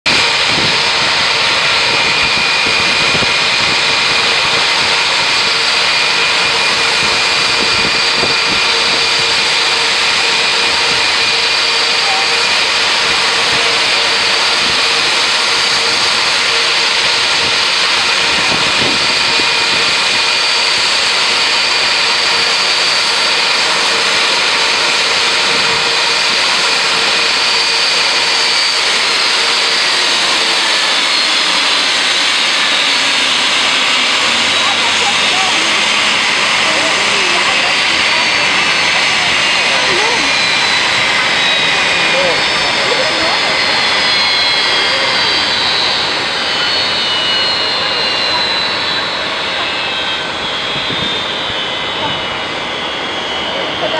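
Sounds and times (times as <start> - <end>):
jet engines roaring and whining: 0.0 - 53.9.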